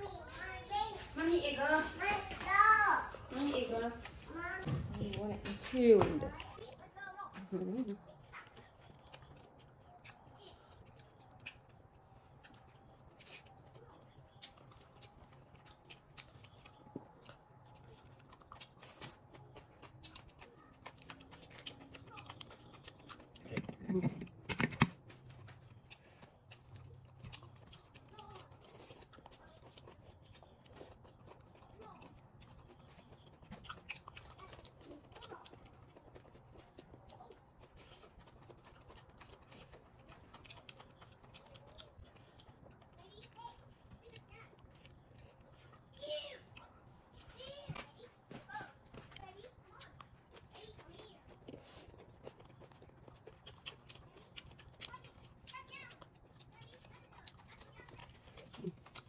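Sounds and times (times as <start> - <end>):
crunchy chewing: 3.0 - 59.0.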